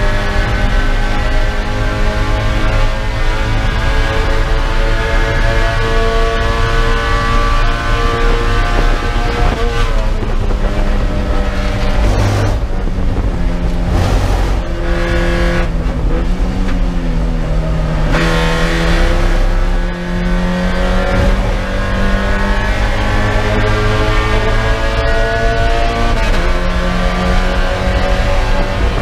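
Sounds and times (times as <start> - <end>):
race car engine: 0.0 - 29.0.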